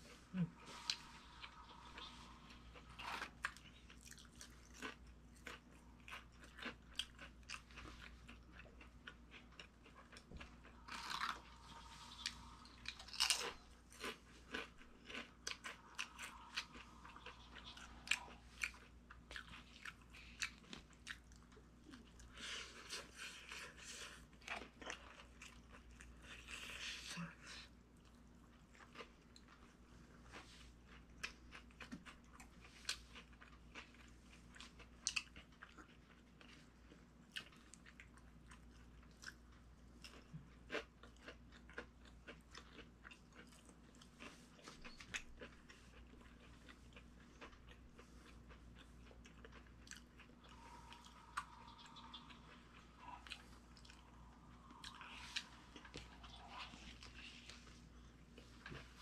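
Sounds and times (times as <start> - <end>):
chewing sandwich: 0.0 - 59.0.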